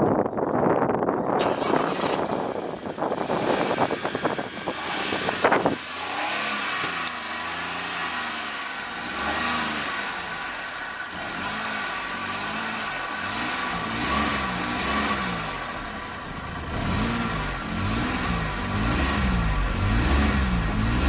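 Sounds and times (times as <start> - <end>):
car engine cranking: 1.2 - 21.0
car engine revving: 1.4 - 21.0.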